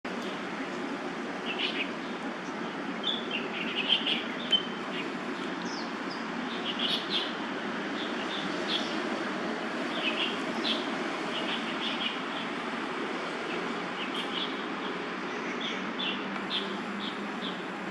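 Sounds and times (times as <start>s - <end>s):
small birds chirping: 0.1s - 12.7s, 13.3s - 17.9s.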